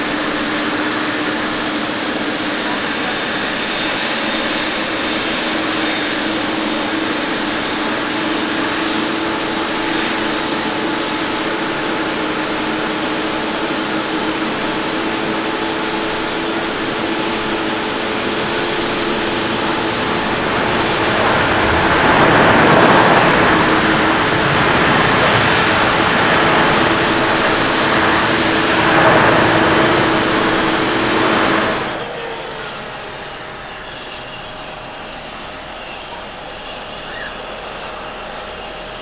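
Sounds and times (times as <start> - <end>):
jet engine noise: 0.0 - 39.0.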